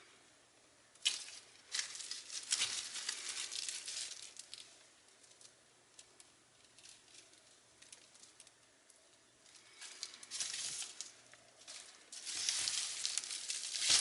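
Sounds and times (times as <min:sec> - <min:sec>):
dry leaves crackling and rustling: 0:01.0 - 0:08.6, 0:09.4 - 0:14.0.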